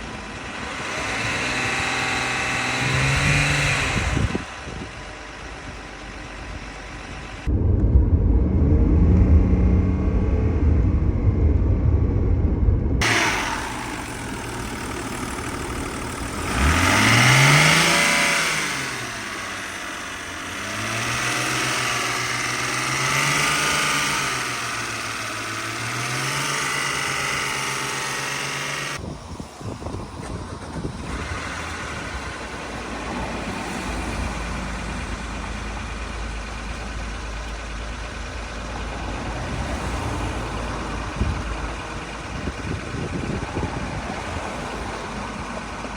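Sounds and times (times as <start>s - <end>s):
car engine running and revving: 0.0s - 45.9s.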